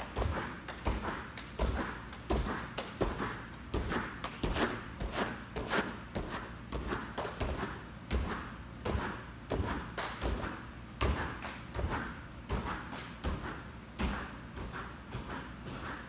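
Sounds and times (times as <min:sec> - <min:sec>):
bare feet thudding on foam mats: 0:00.0 - 0:16.0.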